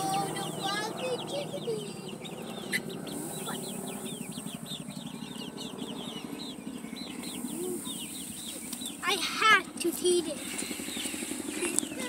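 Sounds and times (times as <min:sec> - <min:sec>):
chicks peeping: 0:00.0 - 0:12.0
low steady hum: 0:00.0 - 0:12.0.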